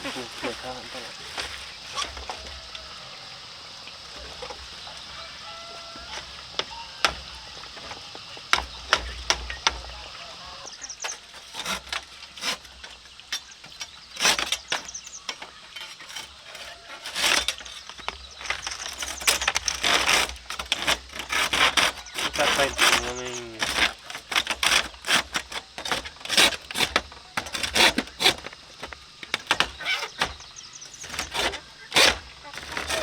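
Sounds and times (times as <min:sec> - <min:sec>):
rough rasping strokes: 0:04.0 - 0:33.0.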